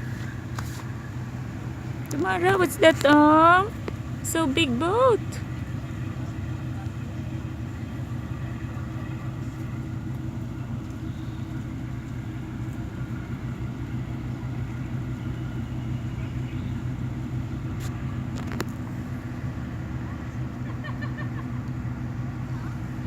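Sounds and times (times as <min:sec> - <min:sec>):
low mechanical drone: 0:00.0 - 0:23.0.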